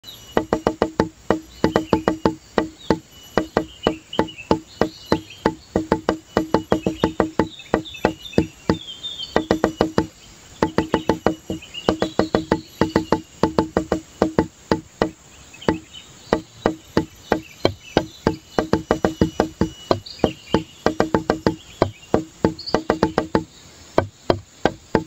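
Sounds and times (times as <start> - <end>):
high chirping sounds: 0.0 - 25.0
wood block percussion music: 0.0 - 25.0.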